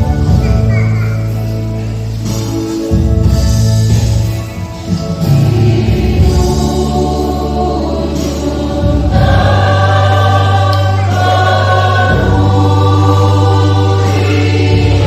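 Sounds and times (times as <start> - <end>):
choir singing a hymn: 0.0 - 15.0
sustained low accompaniment notes: 0.0 - 15.0.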